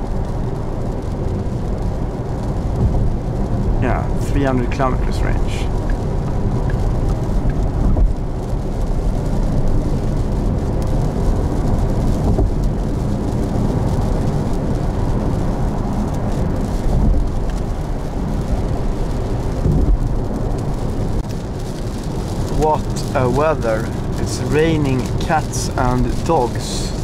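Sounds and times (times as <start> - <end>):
rain: 0.0 - 27.0
tyres rumbling on wet road: 0.0 - 27.0.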